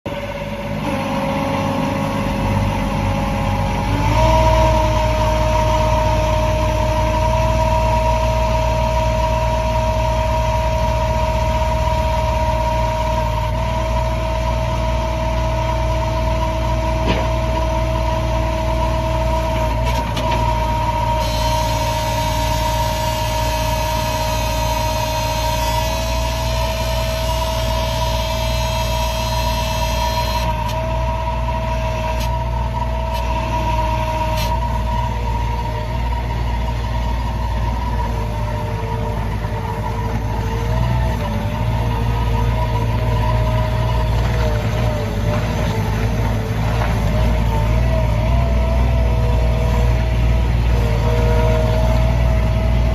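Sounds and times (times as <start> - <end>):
diesel engine running: 0.1 - 52.9.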